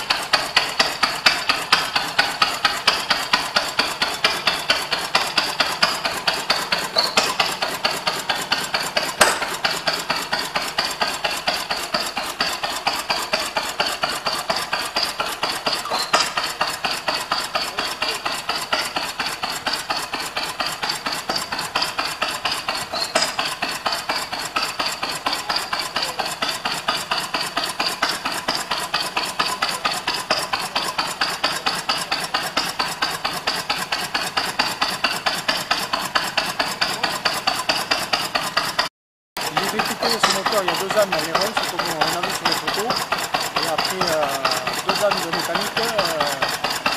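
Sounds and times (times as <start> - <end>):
stationary engine clattering: 0.0 - 46.9.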